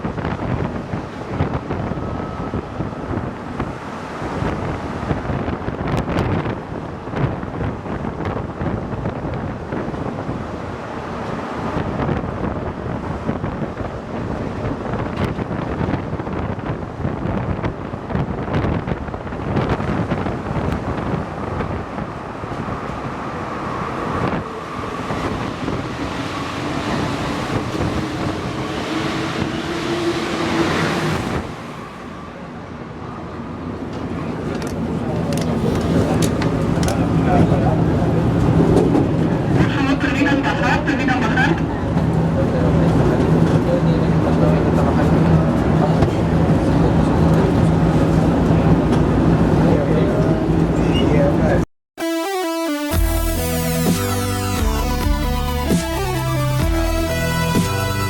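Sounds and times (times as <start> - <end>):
subway train rumbling in tunnel: 0.0 - 51.6.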